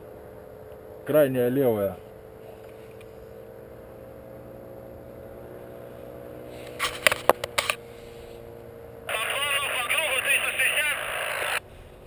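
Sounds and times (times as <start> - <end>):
paramotor engine drone: 0.0 - 12.0.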